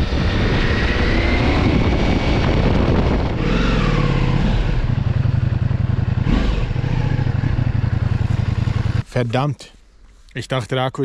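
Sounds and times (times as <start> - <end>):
motorcycle engine slowing: 0.0 - 9.0.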